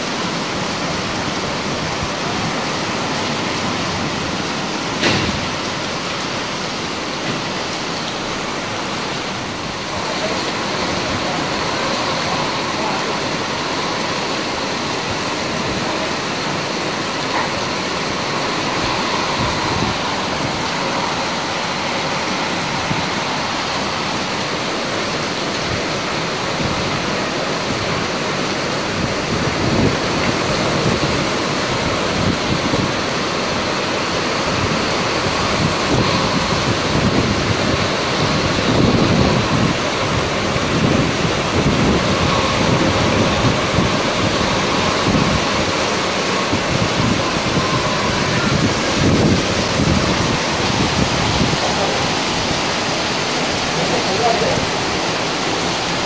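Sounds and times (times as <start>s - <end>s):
heavy rain pouring: 0.0s - 56.0s
wind gusts buffeting microphone: 8.3s - 56.0s.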